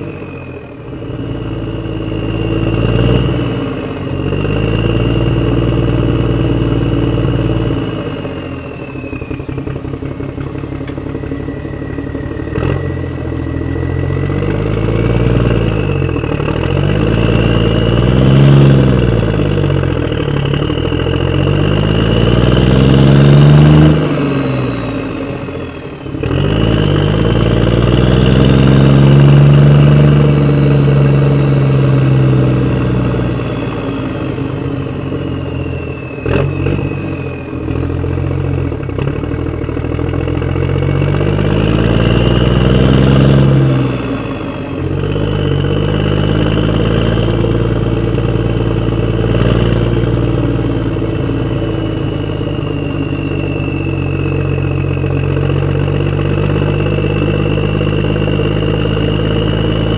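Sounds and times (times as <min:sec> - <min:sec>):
toy tractor engine whine: 0:00.0 - 0:59.9.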